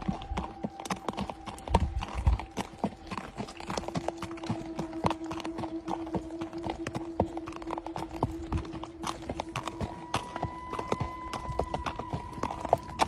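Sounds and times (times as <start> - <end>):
horse hooves clip-clopping: 0.0 - 13.0
low hum: 0.0 - 13.0.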